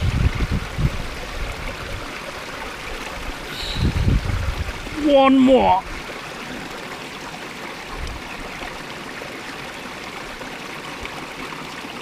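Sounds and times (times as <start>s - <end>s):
creek water trickling over stones: 0.0s - 12.0s.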